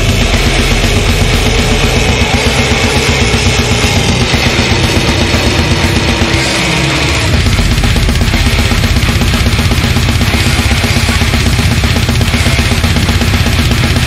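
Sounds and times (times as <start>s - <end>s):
fast pounding drums: 0.0s - 14.0s
heavily distorted guitars: 0.0s - 14.0s.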